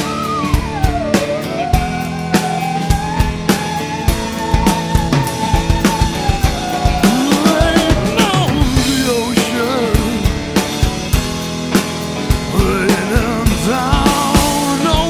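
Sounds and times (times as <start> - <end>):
melodic lead line bending: 0.0 - 15.0
rock drum kit beat: 0.0 - 15.0.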